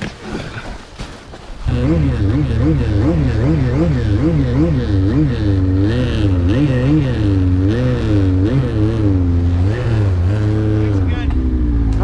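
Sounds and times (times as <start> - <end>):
snowmobile engine revving: 1.6 - 12.0.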